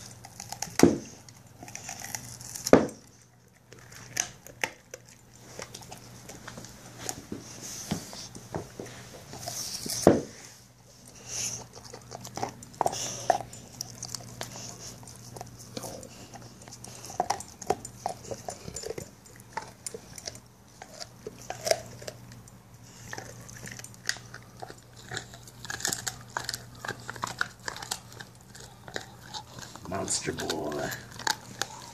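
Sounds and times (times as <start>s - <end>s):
dog gnawing on bone: 0.0s - 31.9s.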